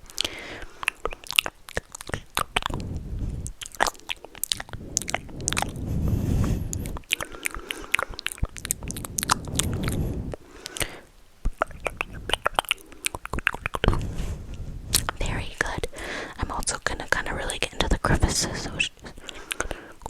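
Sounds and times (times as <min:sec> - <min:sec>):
soft low rubbing: 0:02.2 - 0:19.0.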